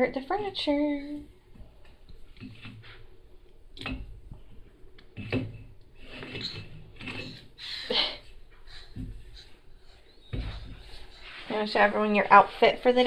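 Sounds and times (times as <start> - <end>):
rubbing and shuffling: 1.6 - 3.5, 4.2 - 13.0.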